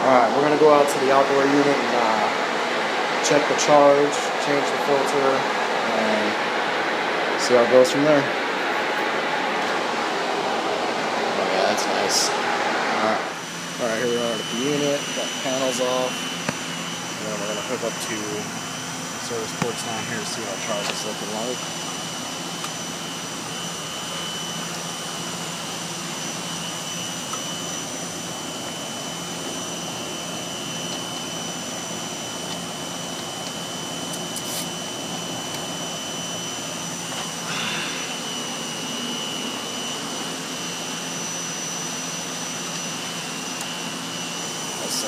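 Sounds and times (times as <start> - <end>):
condenser fan air rush: 0.0 - 45.0
steady high whine: 0.0 - 45.0.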